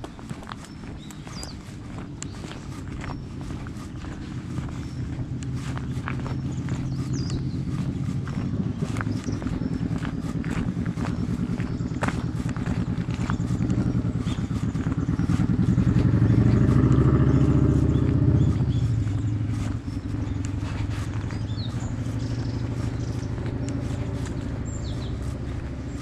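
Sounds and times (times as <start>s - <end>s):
bird chirping: 0.0s - 26.0s
engine running: 0.0s - 26.0s
footsteps on a path: 0.0s - 26.0s.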